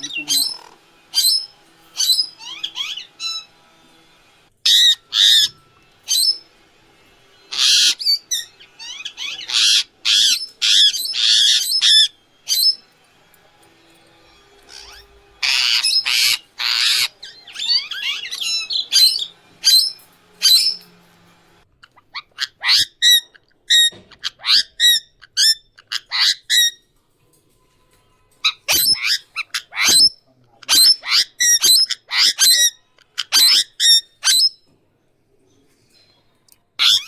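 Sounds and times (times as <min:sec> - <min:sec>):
parakeet screeching and chattering: 0:00.0 - 0:26.8, 0:28.4 - 0:34.6, 0:36.8 - 0:37.0.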